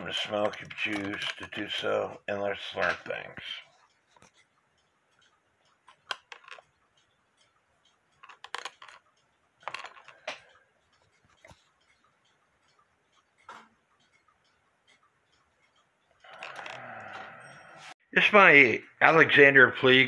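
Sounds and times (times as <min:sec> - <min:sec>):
faint clicks and rattles: 0:00.0 - 0:17.6.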